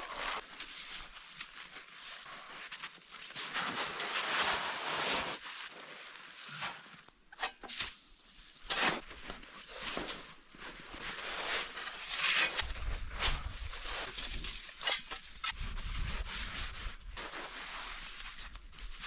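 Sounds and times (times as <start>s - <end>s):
crunching and scraping in snow: 0.0s - 19.0s.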